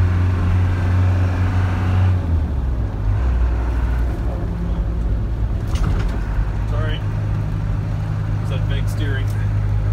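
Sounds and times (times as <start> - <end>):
engine running heard from cab: 0.0 - 9.9.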